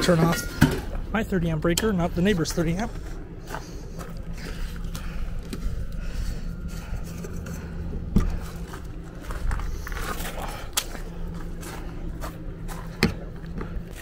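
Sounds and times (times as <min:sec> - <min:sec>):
steady low hum: 0:00.0 - 0:14.0
footsteps: 0:01.8 - 0:14.0.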